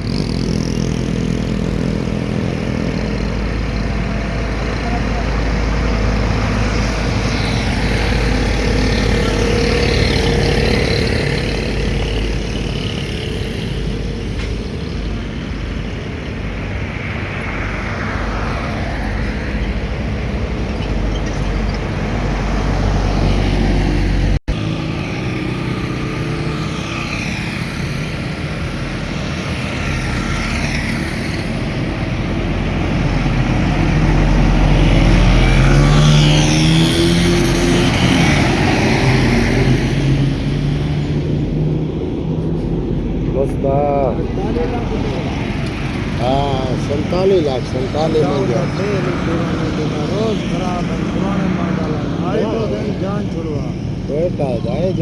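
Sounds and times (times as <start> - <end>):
heavy road traffic passing: 0.0 - 55.0.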